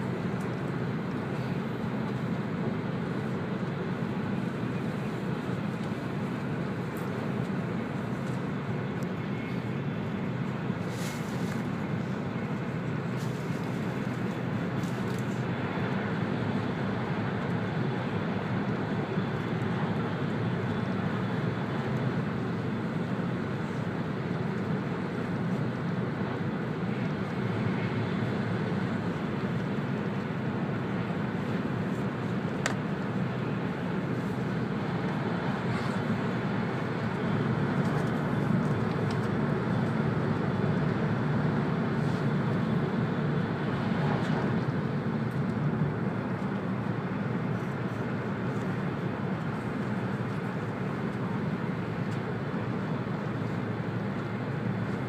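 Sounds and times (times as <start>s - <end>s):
train interior rumble: 0.0s - 55.0s.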